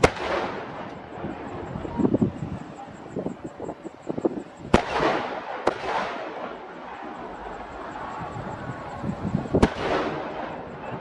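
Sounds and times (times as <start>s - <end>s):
firework shells bursting: 0.0s - 1.8s, 3.6s - 11.0s.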